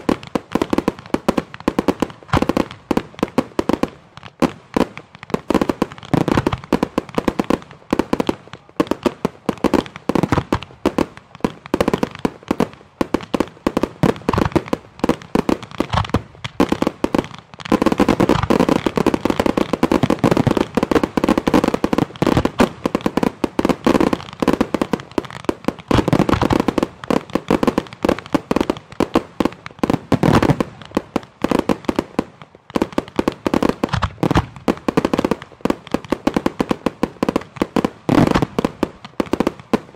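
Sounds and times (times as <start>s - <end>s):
fireworks barrage of rapid bangs: 0.0s - 39.9s.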